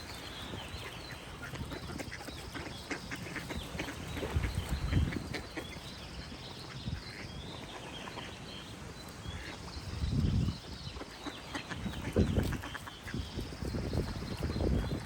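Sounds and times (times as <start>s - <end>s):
outdoor background noise: 0.0s - 15.0s
songbirds chirping: 0.0s - 15.0s.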